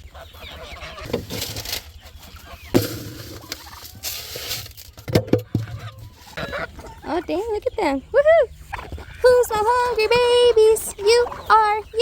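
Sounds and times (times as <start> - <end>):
turkey gobbling: 0.0 - 4.5, 5.4 - 12.0
poultry calls: 0.0 - 4.6, 5.4 - 12.0.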